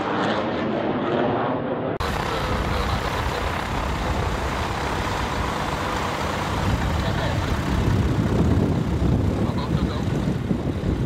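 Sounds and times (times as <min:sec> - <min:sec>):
propeller plane engine running: 0:02.0 - 0:11.0.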